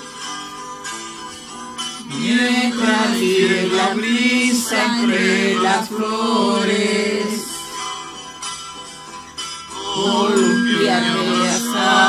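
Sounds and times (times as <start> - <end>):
acoustic guitars playing: 0.0 - 12.0.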